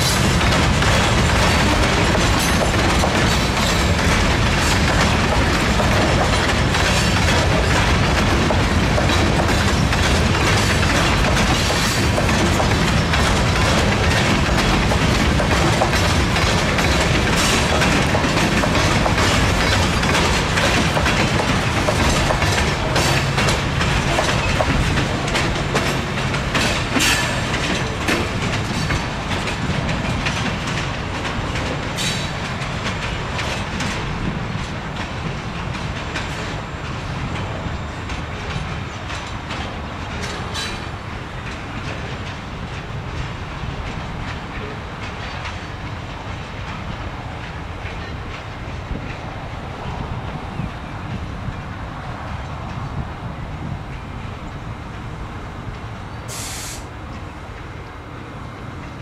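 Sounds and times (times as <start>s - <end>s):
freight train rolling past: 0.0s - 59.0s
wheels clanking over rail joints: 0.0s - 59.0s.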